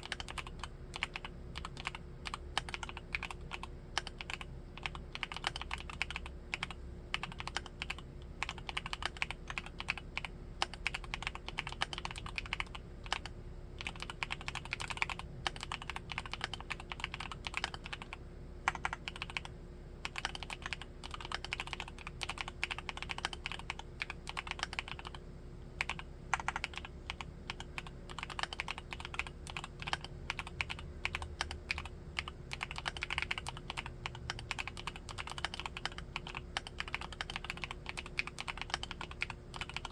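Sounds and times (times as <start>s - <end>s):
typing on mechanical keyboard: 0.0s - 25.2s, 25.8s - 39.9s.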